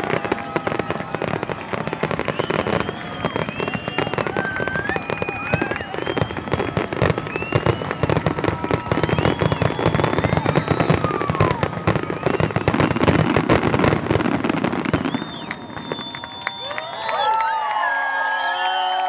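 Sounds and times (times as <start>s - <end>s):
fireworks bangs and crackles: 0.0s - 17.0s
whistling fireworks: 0.0s - 19.0s.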